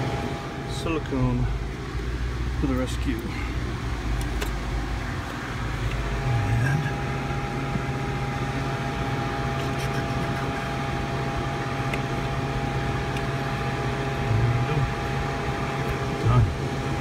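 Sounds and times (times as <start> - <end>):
refrigeration unit humming: 0.0 - 17.0.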